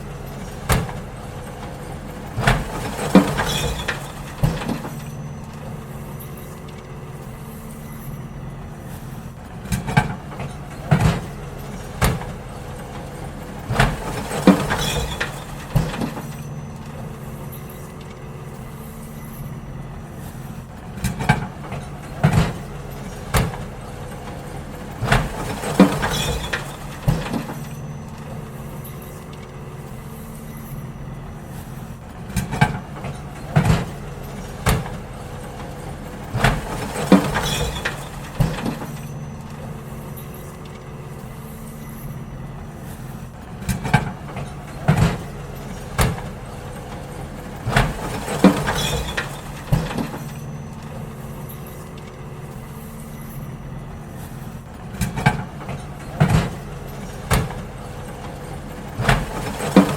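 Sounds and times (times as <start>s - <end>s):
garbage truck engine running: 0.0s - 59.9s
metallic clanks and bangs: 0.0s - 59.9s.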